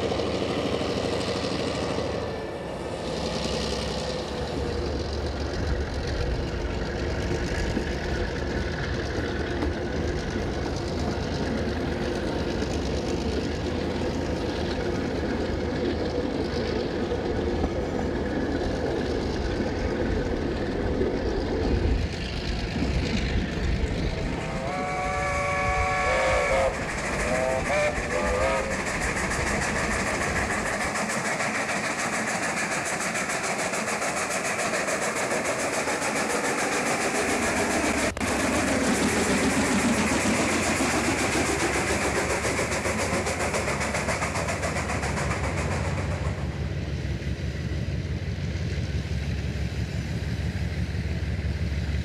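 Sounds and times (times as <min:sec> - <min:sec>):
train running noise and rail clatter: 0:00.0 - 0:52.0.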